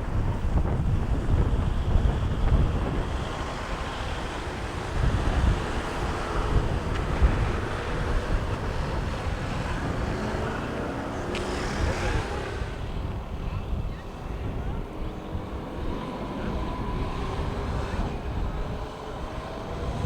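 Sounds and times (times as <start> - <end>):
wind buffeting microphone: 0.0 - 20.0
waves breaking on shore: 1.0 - 17.7.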